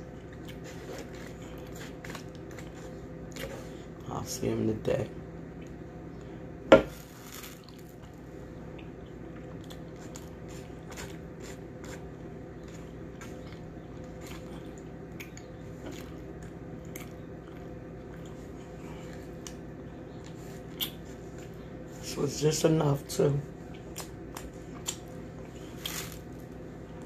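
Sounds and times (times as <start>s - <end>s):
person chewing food: 0.0s - 4.0s, 5.6s - 21.7s, 23.6s - 27.0s
steady low hum: 0.0s - 27.0s.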